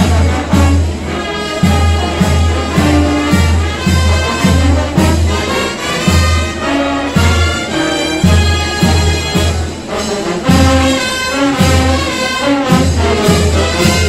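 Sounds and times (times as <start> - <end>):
brass band playing a march: 0.0 - 14.0.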